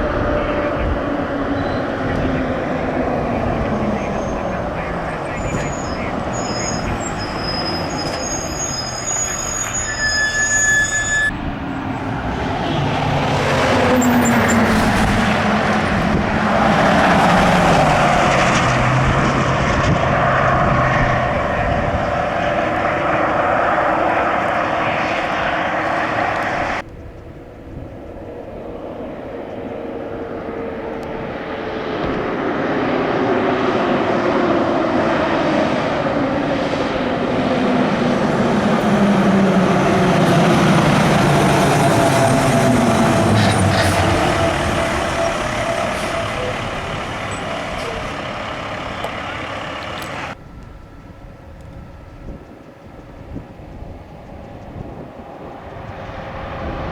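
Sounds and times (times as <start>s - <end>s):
heavy vehicle passing: 0.0s - 9.9s, 11.2s - 26.8s, 28.7s - 50.4s
loud engine: 0.0s - 26.8s, 28.5s - 50.6s.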